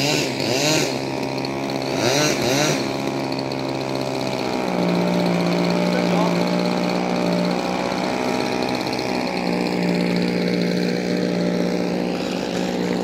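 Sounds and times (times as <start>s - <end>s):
model plane propeller drone: 0.0s - 13.0s.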